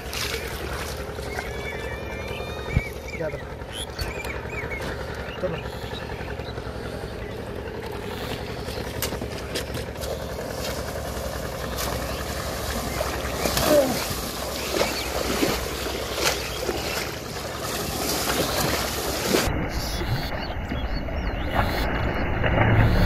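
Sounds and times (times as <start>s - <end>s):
people wading through water: 0.0s - 23.0s
steady low rumble: 0.0s - 23.0s.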